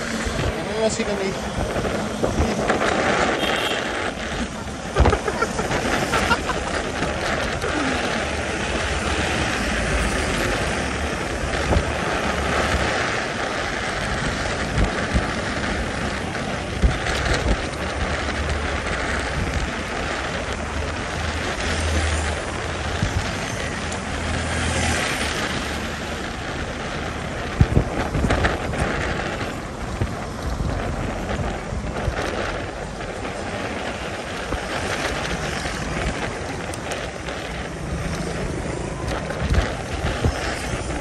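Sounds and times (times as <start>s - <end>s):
road noise: 0.0s - 41.0s
wind rush on microphone: 0.0s - 41.0s.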